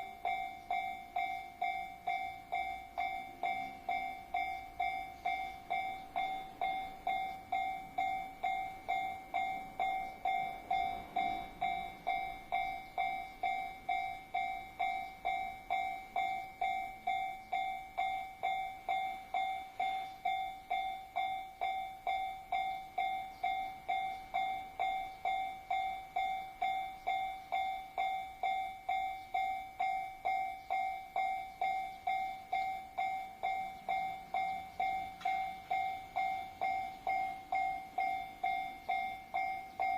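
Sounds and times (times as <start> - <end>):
level-crossing alarm bell ringing: 0.0 - 39.9.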